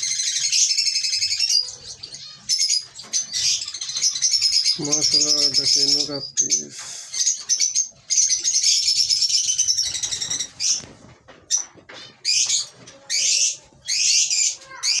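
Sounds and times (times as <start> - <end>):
lovebirds chattering: 0.0 - 15.0.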